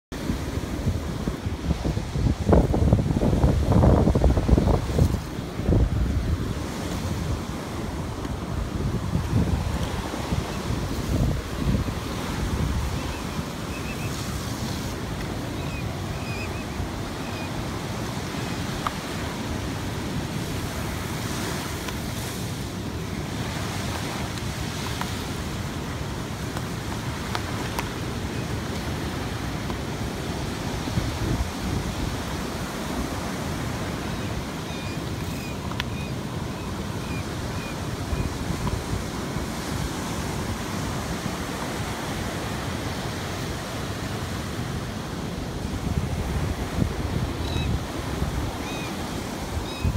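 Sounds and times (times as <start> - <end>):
wind rush on microphone: 0.1 - 49.9.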